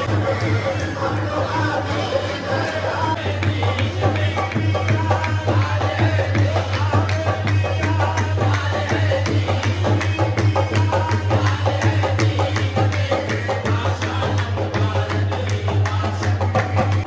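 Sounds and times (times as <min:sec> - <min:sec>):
harmonium: 0:00.0 - 0:17.0
singing into microphones: 0:00.0 - 0:17.0
chorus handclaps: 0:03.2 - 0:17.0.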